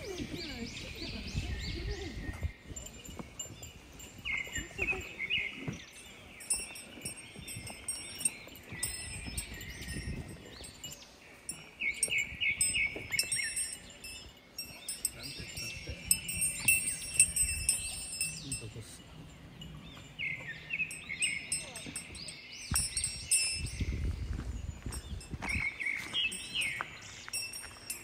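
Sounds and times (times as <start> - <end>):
high bell-like tinkling: 0.0 - 28.0.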